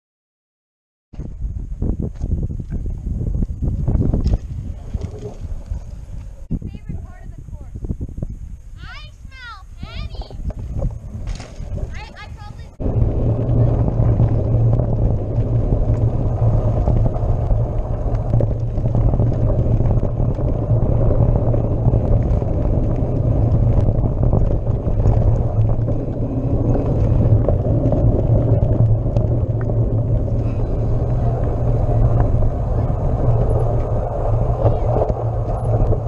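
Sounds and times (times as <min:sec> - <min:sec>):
mountain bike tyres rumbling: 0:01.2 - 0:36.0
wind on microphone: 0:01.2 - 0:36.0.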